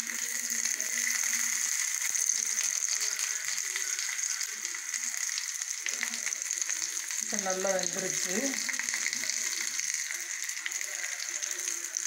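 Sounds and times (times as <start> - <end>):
chicken sizzling in frying pan: 0.0 - 12.0
oil popping and crackling: 0.0 - 12.0.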